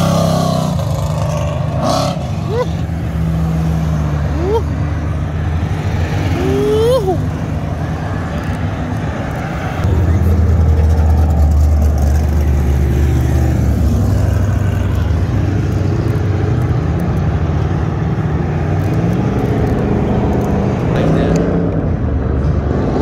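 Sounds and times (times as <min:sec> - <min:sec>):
car engine low rumble: 0:00.0 - 0:23.0
cars driving past: 0:00.0 - 0:23.0.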